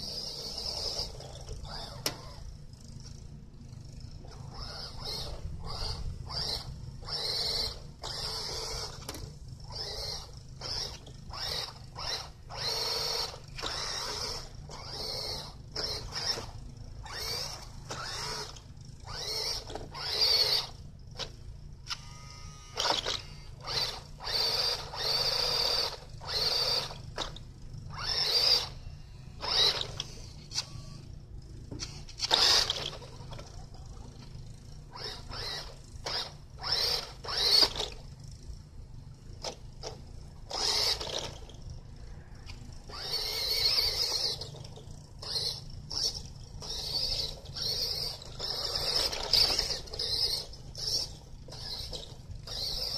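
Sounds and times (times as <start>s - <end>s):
toy car electric motor whining: 0.0s - 52.9s.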